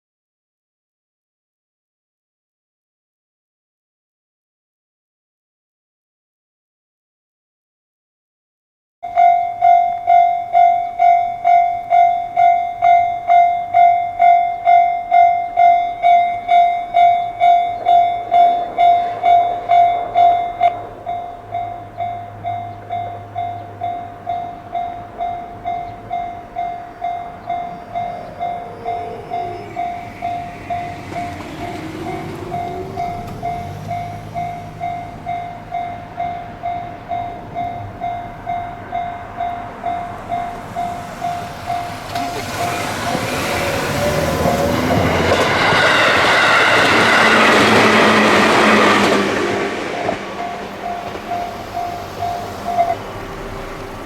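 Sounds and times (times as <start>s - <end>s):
level crossing warning bell: 9.0s - 54.0s
train passing: 9.1s - 54.0s.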